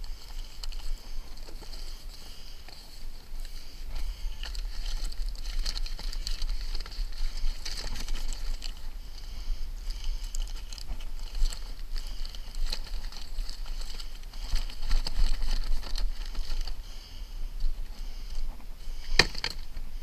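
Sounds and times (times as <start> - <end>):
membrane sheets crinkling: 0.0 - 20.0.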